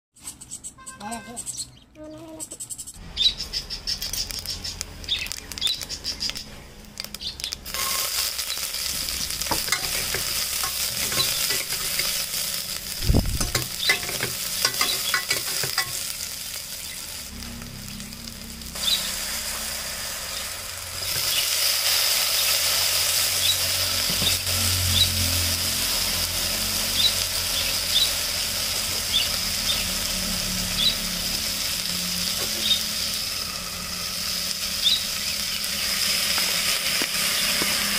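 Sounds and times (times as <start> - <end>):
hot oil sizzling and spattering: 3.4 - 37.9.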